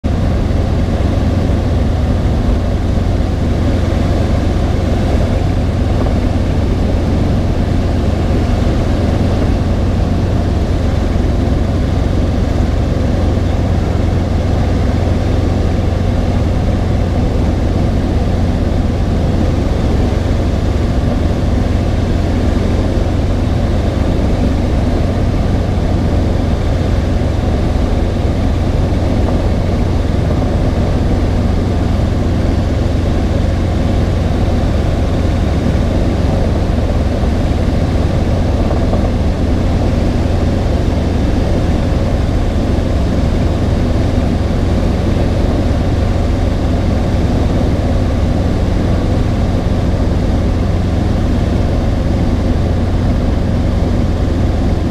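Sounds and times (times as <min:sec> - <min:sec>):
helicopter engine and rotors droning: 0:00.1 - 0:54.9.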